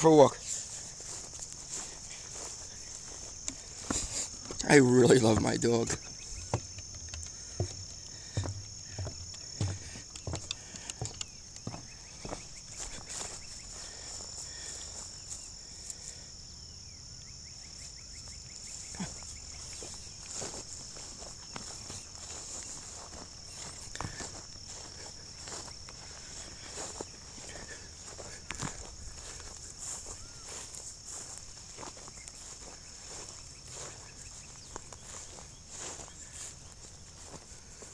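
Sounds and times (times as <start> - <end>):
footsteps crunching on ground: 0.0 - 16.2, 17.4 - 37.9
insect chorus: 0.0 - 37.9.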